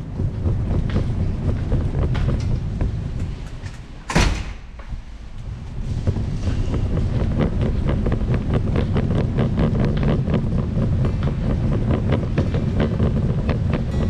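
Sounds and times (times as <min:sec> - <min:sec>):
cart wheels rolling on floor: 0:00.0 - 0:14.0.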